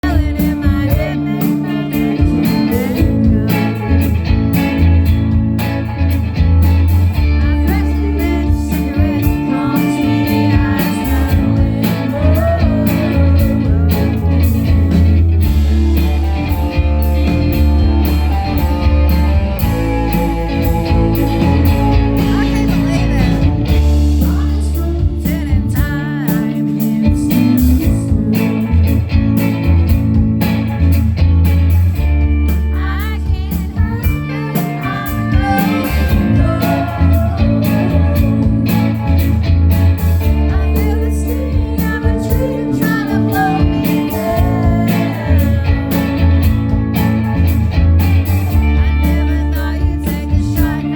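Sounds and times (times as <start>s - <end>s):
person singing: 0.0s - 4.9s, 7.3s - 29.1s, 32.7s - 39.4s, 40.2s - 47.2s, 48.3s - 50.9s
heavy bass line: 0.0s - 50.9s
live blues-rock band: 0.0s - 50.9s.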